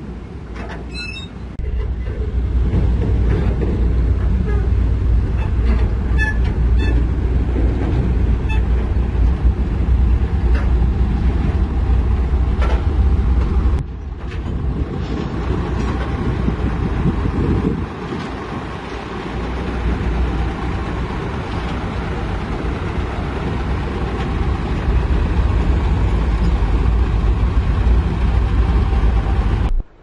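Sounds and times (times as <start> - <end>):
heavy diesel engine rumbling: 0.0 - 30.0.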